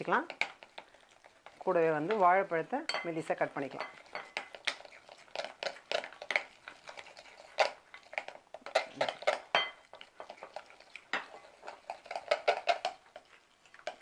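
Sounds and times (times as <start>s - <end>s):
utensil stirring batter in glass bowl: 0.0s - 14.0s.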